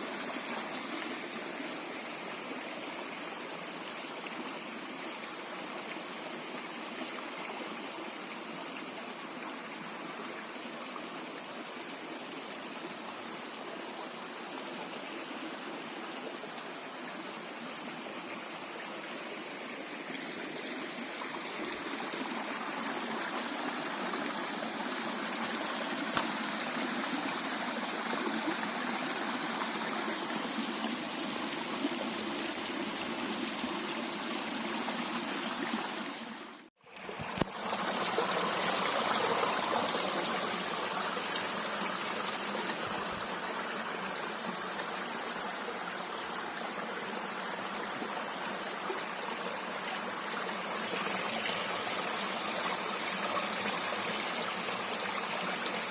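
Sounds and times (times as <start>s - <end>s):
stream water flowing: 0.0s - 55.9s.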